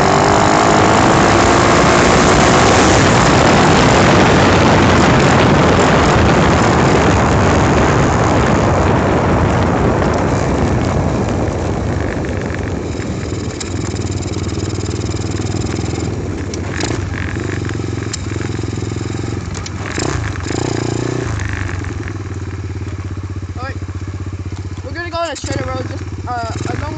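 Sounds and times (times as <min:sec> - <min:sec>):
wind rushing over microphone: 0:00.0 - 0:24.4
dirt bike engine running: 0:00.0 - 0:26.9.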